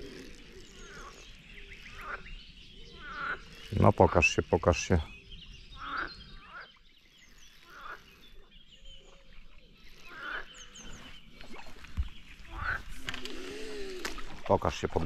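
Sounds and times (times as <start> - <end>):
small birds chirping: 0.0 - 15.0
waterbirds calling: 0.0 - 15.0.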